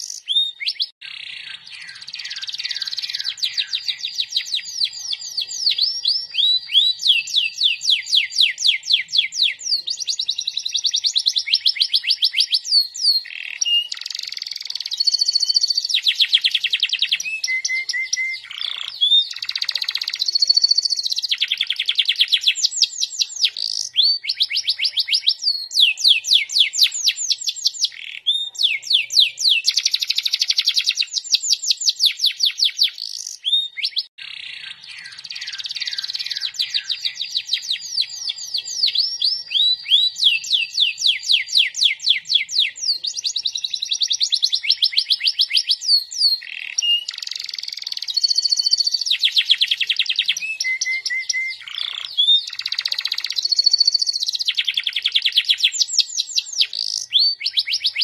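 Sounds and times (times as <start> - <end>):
canary singing rapid trills: 0.0 - 58.0.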